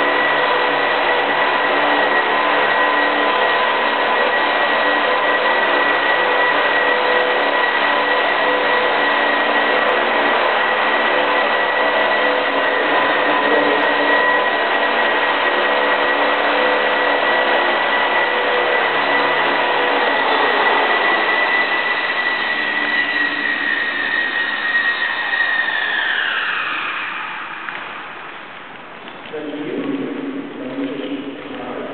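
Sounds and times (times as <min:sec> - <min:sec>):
model helicopter motor whine: 0:00.0 - 0:28.5
rotor whirring: 0:00.0 - 0:29.2.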